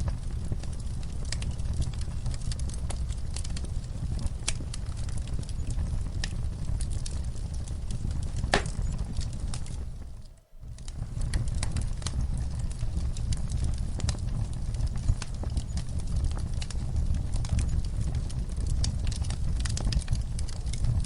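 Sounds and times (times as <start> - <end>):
fire popping: 0.0 - 21.0
low steady rumble: 0.0 - 21.0
wood fire crackling: 0.0 - 21.0.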